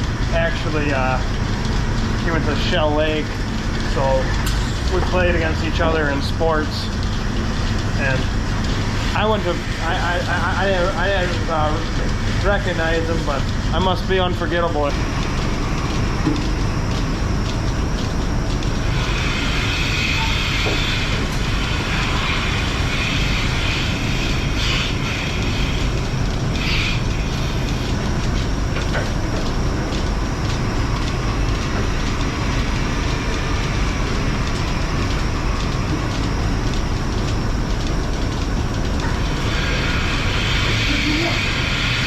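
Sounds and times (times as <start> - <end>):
light rhythmic clicking: 0.0 - 42.0
milking machinery running: 0.0 - 42.0.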